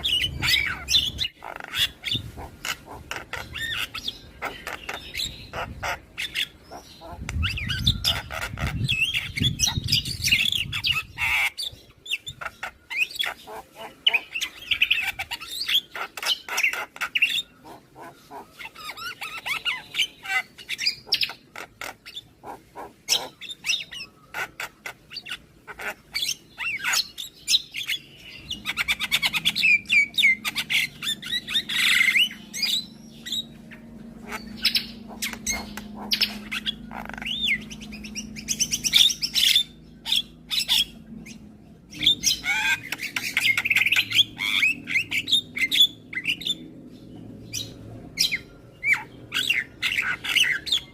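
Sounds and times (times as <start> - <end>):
bird chattering song: 0.0 - 50.9.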